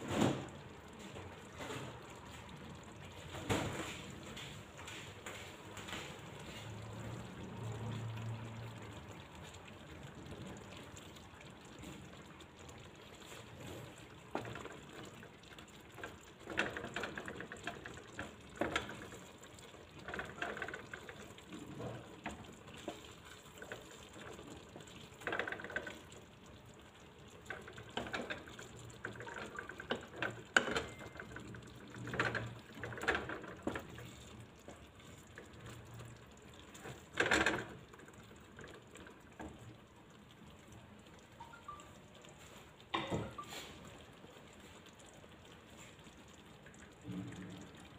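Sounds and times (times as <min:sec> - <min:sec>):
cream sauce bubbling in a pan: 0:00.0 - 0:47.9.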